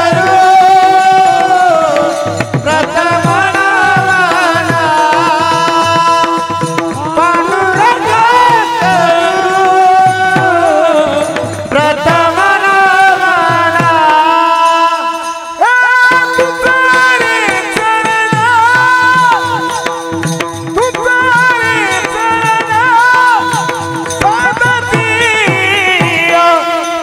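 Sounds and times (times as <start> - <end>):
man singing devotional song: 0.0 - 27.0.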